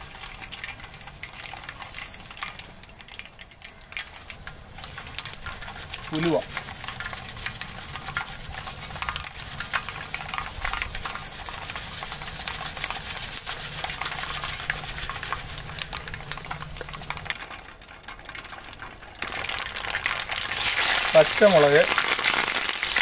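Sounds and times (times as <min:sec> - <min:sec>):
seeds sizzling and popping in oil: 0:00.0 - 0:23.0.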